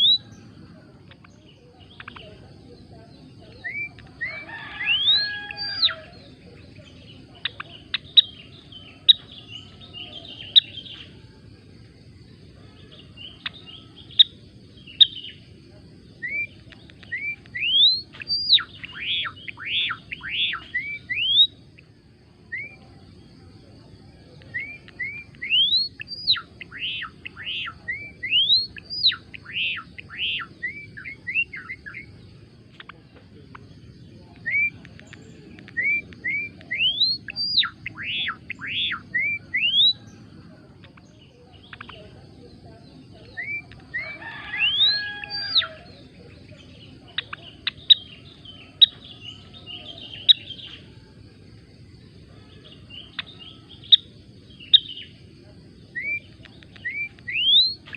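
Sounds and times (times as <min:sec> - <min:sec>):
songbird chirps and whistles: 0:00.0 - 0:57.9.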